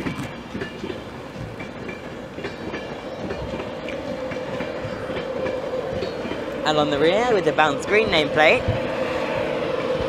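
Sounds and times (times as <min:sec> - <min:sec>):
locomotive whine: 0:00.0 - 0:10.0
train wheels clicking over rail joints: 0:00.0 - 0:10.0.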